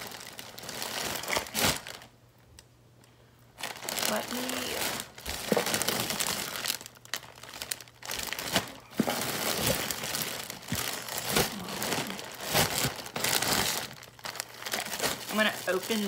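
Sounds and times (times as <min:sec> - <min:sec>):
plastic packaging crinkling: 0:00.0 - 0:02.2, 0:03.6 - 0:16.0.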